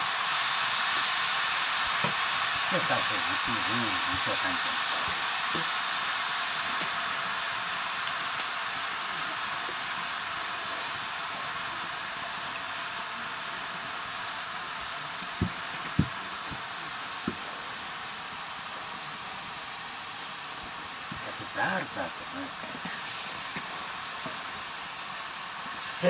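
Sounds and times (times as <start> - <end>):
mushrooms sizzling in a pan: 0.0 - 26.0.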